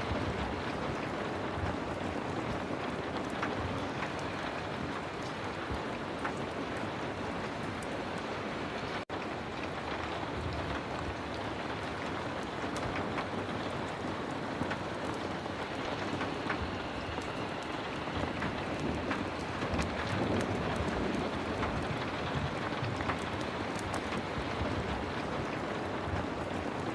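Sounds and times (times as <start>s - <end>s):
heavy rain: 0.0s - 26.9s
sharp ticks of rain: 0.0s - 26.9s.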